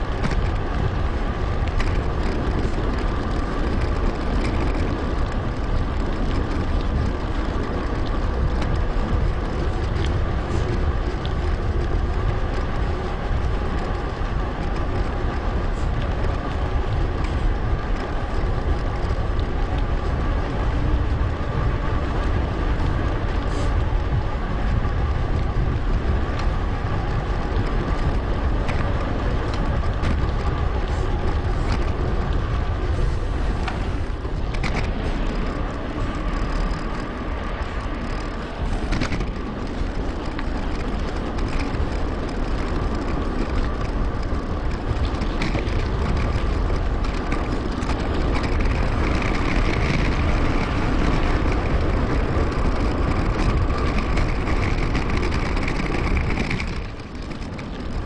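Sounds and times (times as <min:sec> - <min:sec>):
bicycle hum and tyre clicks: 0:00.0 - 0:58.0
wind buffeting microphone: 0:00.0 - 0:58.0.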